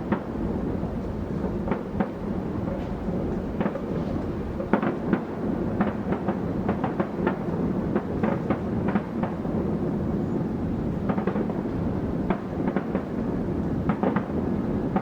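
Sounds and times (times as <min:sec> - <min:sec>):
fireworks bangs and crackles: 0:00.0 - 0:10.2, 0:10.8 - 0:15.0.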